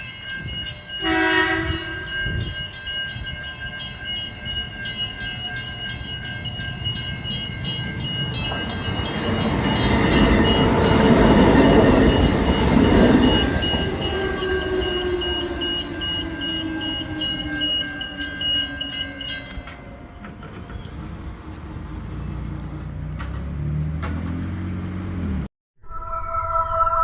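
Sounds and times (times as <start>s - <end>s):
level crossing warning bells: 0.0s - 23.4s
train rumbling past: 0.0s - 25.5s.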